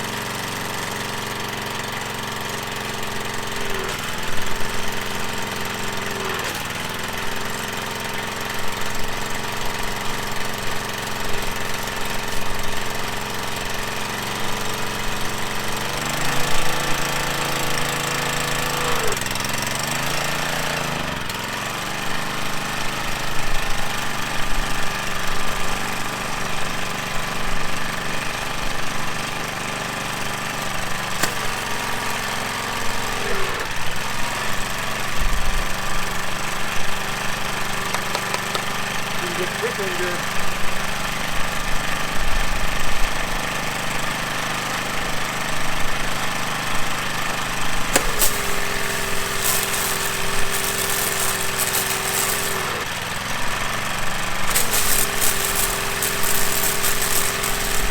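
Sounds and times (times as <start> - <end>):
small gasoline engine running: 0.0 - 57.9.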